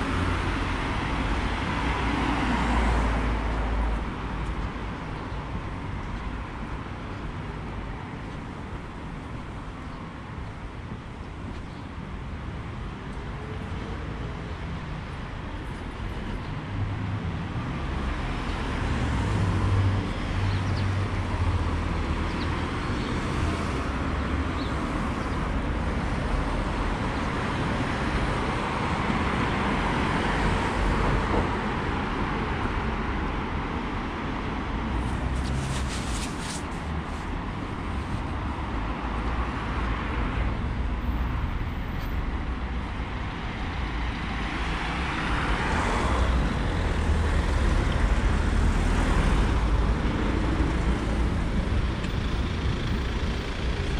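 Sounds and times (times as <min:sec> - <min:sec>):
rumble of passing cars: 0:00.0 - 0:53.9.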